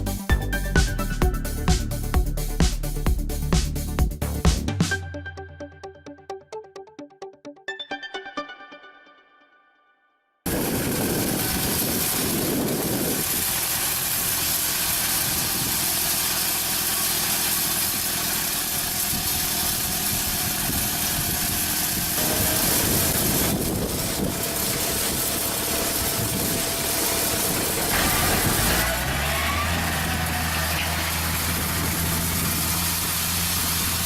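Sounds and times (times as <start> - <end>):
large engine running: 0.0 - 4.4, 10.5 - 34.0.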